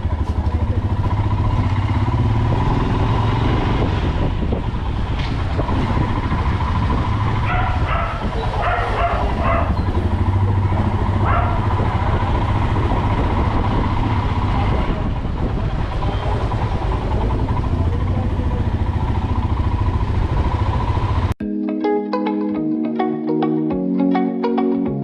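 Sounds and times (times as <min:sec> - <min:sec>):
motorcycle engine running: 0:00.0 - 0:21.4.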